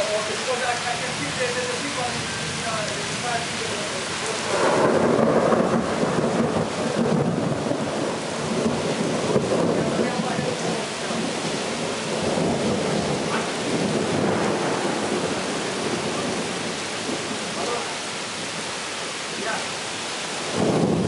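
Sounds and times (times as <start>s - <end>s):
thunder rumbling: 0.0s - 18.7s, 19.6s - 21.0s
heavy rain pouring: 0.0s - 21.0s.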